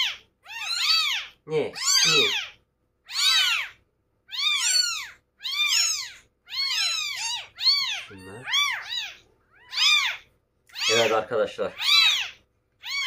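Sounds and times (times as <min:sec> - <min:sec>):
kittens mewing: 0:00.0 - 0:13.0.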